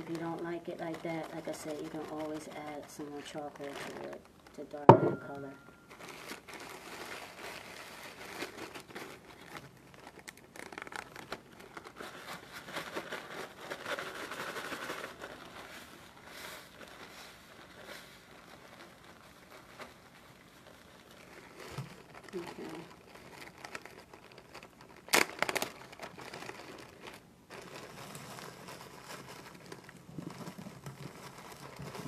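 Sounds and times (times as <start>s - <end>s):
plastic bag crinkling: 0.0s - 32.0s.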